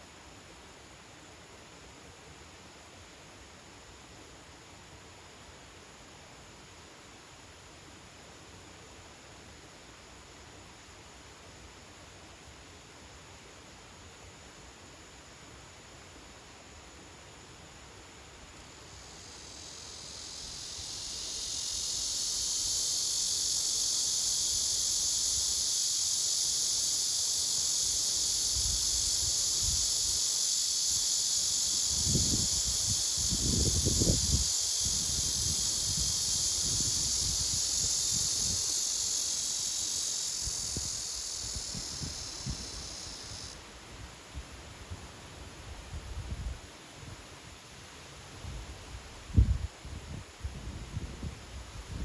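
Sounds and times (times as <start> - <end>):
cicadas buzzing: 0.0 - 52.0.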